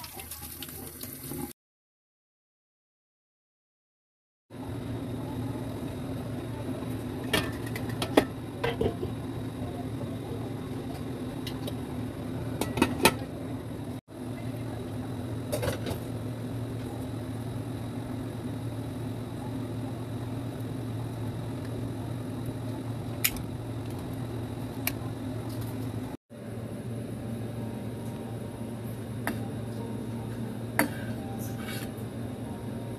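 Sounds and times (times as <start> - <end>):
low mechanical hum: 4.6 - 32.9.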